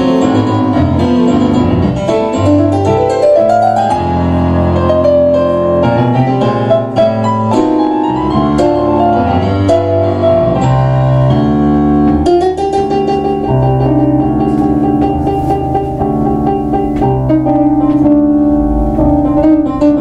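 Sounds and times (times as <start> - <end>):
piano duet playing tango: 0.0 - 20.0.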